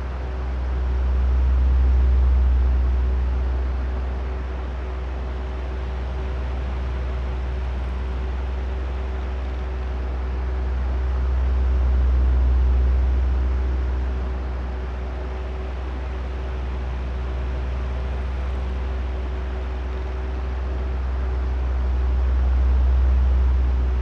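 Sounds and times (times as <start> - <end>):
fan motor hum: 0.0 - 24.0.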